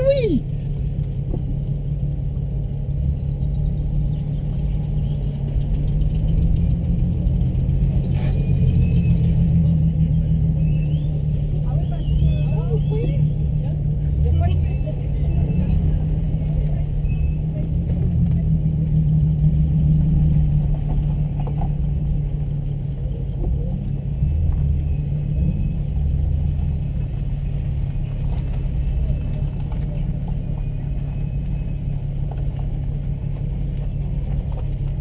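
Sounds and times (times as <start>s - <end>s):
car engine running at low revs: 0.0s - 35.0s.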